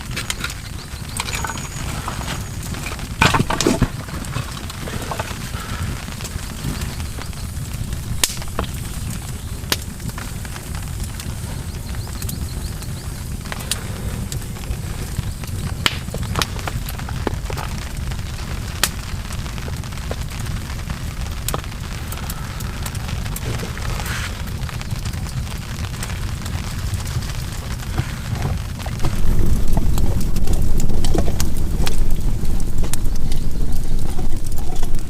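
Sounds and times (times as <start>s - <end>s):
steady low rumble: 0.0s - 35.0s
wood fire crackling and popping: 0.0s - 35.0s.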